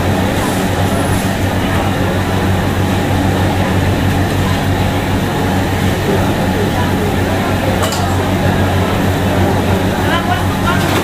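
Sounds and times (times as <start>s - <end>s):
loud mechanical drone: 0.0s - 11.0s.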